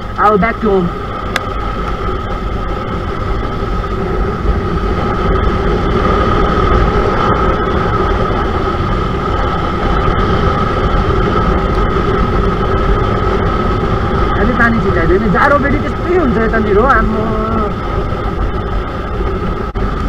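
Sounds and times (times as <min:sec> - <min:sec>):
motorcycle engine running: 0:00.0 - 0:20.0
wind noise: 0:00.0 - 0:20.0.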